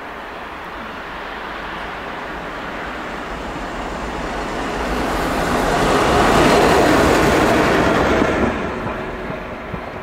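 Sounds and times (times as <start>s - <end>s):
electric locomotive passing: 0.0s - 10.0s.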